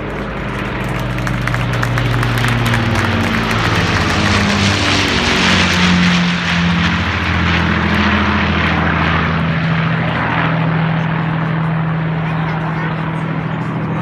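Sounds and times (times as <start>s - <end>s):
propeller plane engines droning overhead: 0.0s - 14.0s.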